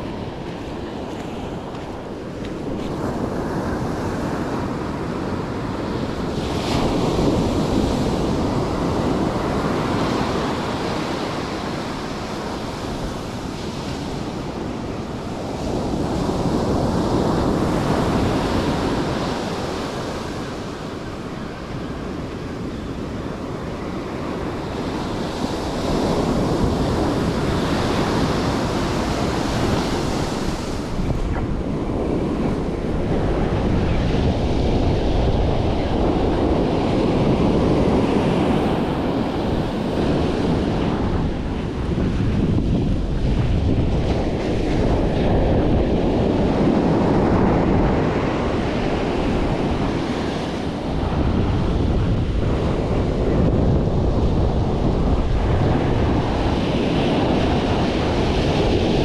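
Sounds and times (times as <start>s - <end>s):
ocean surf breaking on beach: 0.0s - 59.0s
wind buffeting microphone: 0.0s - 59.0s.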